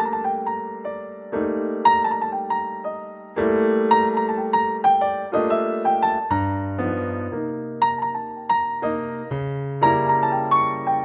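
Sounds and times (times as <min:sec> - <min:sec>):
slow piano-like keyboard music: 0:00.0 - 0:11.0.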